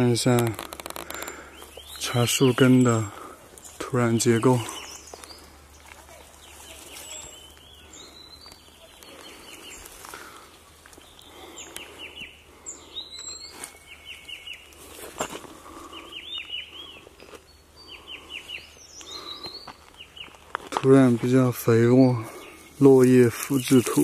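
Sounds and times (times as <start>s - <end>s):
birds singing and chirping: 0.0s - 24.0s.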